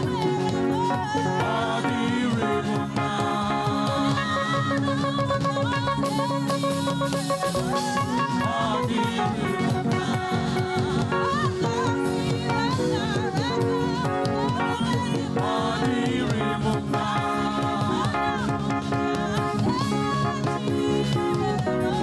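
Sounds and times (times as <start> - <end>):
band with drums: 0.0 - 22.0
choir singing gospel music: 0.0 - 22.0.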